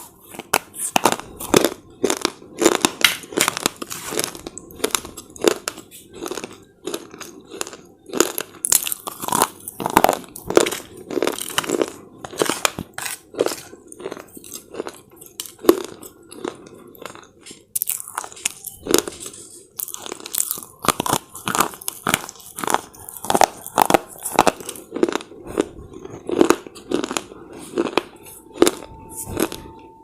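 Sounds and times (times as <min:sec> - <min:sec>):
crunching and chewing slate chips: 0:00.0 - 0:29.9.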